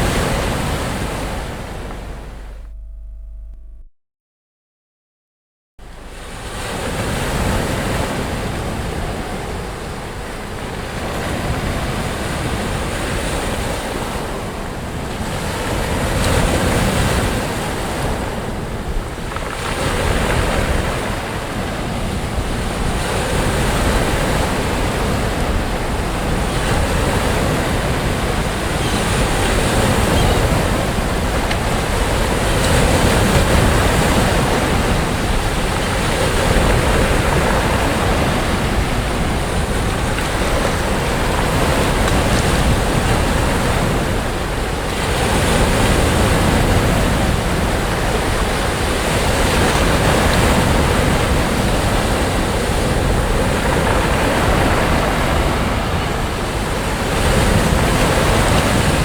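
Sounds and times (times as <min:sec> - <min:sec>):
waves breaking on a beach: 0:05.8 - 0:59.0
wind on the microphone: 0:05.8 - 0:59.0.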